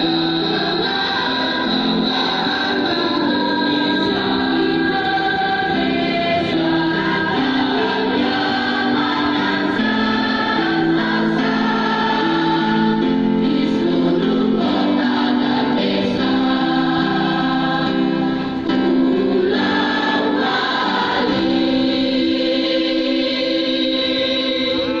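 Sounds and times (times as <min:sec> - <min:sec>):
choir singing in harmony: 0:00.0 - 0:25.0.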